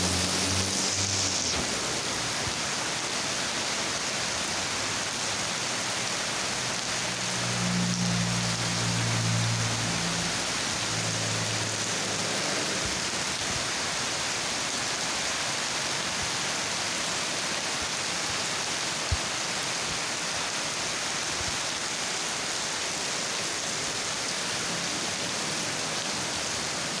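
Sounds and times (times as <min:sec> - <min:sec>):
heavy rain: 0:00.0 - 0:27.0
water pouring off metal roof: 0:00.0 - 0:27.0.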